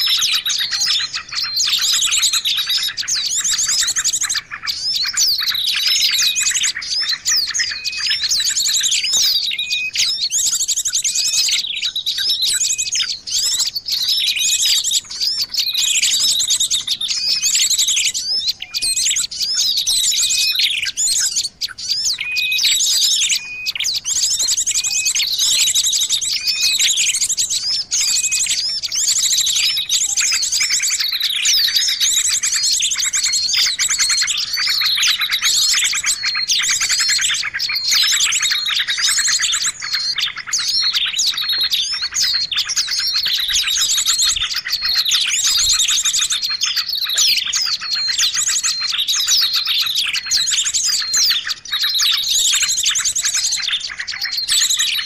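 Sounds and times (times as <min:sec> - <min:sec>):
fast high bird trill: 0:00.0 - 0:55.0
songbirds chirping and twittering: 0:00.0 - 0:55.0.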